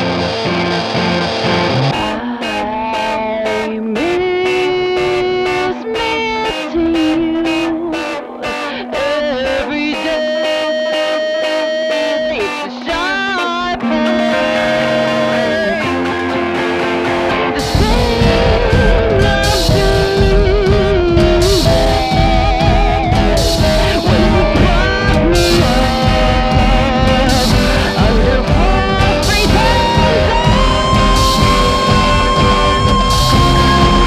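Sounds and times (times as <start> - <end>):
bending electric guitar lines: 0.0 - 34.0
rock band playing: 0.0 - 34.0.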